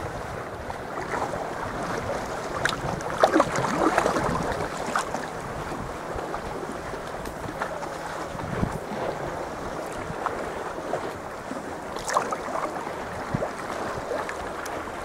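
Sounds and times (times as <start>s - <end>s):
water lapping around kayak: 0.0s - 15.0s
wind on microphone: 0.0s - 15.0s.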